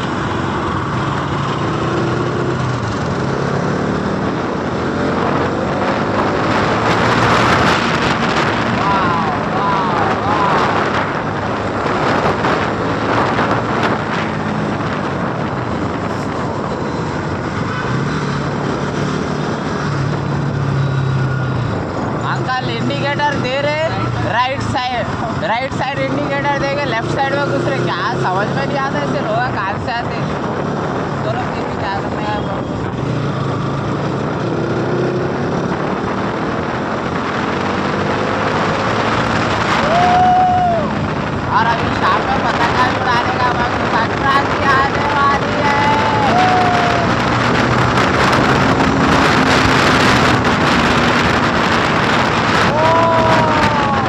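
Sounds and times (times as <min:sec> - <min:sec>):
motorcycle engine drone: 0:00.0 - 0:54.0
wind rushing over microphone: 0:00.0 - 0:54.0.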